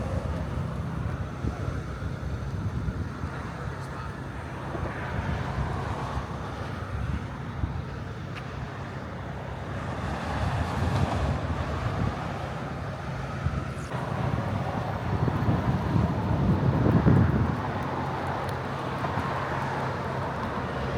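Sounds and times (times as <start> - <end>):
wind buffeting microphone: 0.0 - 8.7, 9.9 - 20.9.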